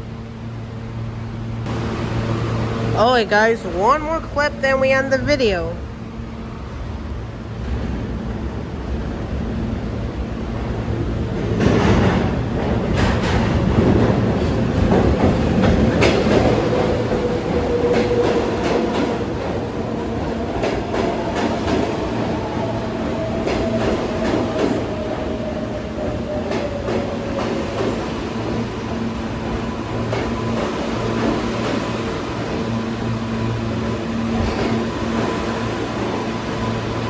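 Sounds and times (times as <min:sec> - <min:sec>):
subway train rumbling: 0:00.0 - 0:37.0.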